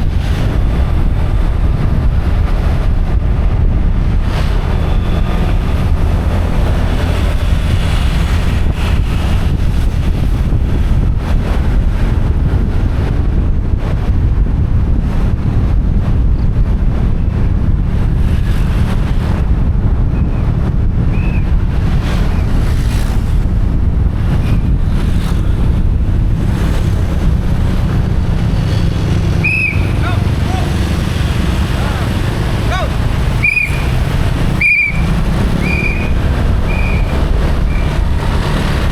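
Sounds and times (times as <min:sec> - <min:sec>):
motorcycle running: 0:00.0 - 0:38.9
wind buffeting microphone: 0:00.0 - 0:38.9.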